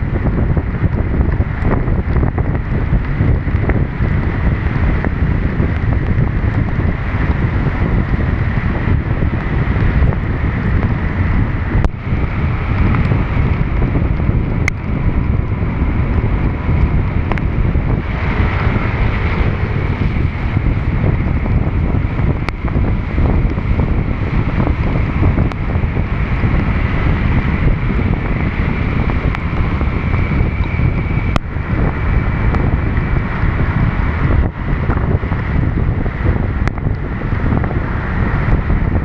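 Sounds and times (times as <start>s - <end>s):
wind buffeting microphone: 0.0s - 39.0s
rain hiss on wet road: 0.1s - 39.0s.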